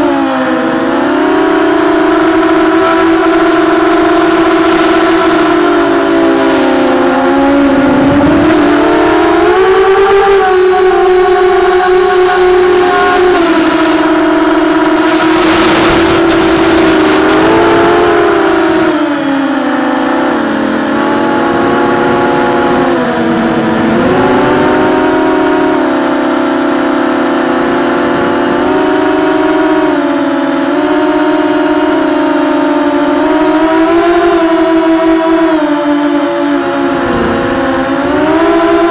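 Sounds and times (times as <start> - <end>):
drone motor whine: 0.0 - 38.9.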